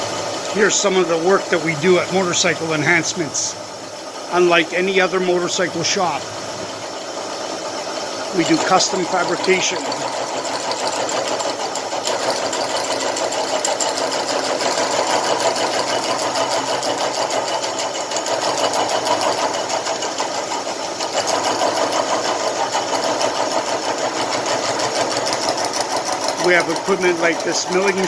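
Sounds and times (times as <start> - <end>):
milling machine cutting metal: 0.0 - 28.0.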